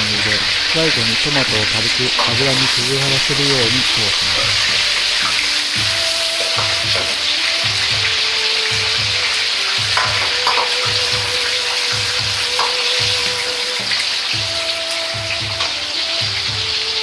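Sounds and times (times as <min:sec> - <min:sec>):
ladle knocking against wok: 0:00.0 - 0:16.7
vegetables sizzling in oil: 0:00.0 - 0:17.0.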